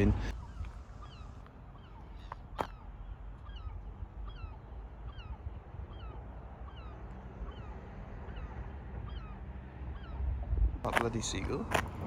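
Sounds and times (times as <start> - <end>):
seagull calling: 0.0 - 10.3
low rumble of wind or engines: 0.0 - 12.0.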